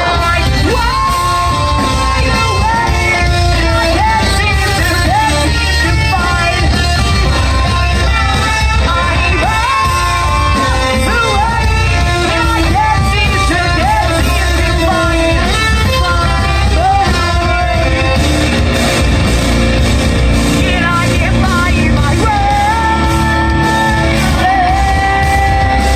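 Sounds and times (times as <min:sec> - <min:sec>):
person singing: 0:00.0 - 0:18.5, 0:20.4 - 0:25.9
metalcore band playing live: 0:00.0 - 0:25.9.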